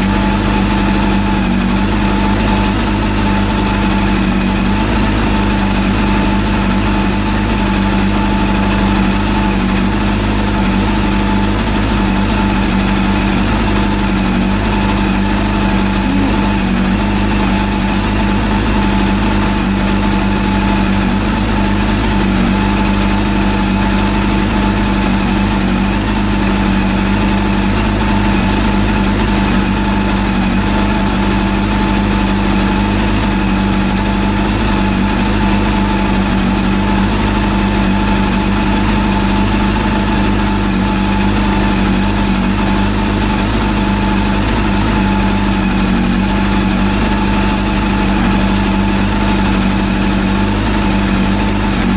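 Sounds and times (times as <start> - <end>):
motorcycle engine idling: 0.0 - 51.9.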